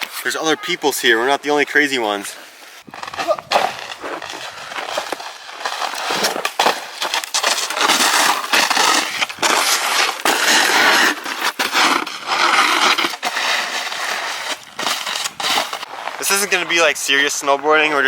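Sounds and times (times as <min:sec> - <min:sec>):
crunching and scraping in snow: 0:00.0 - 0:18.0.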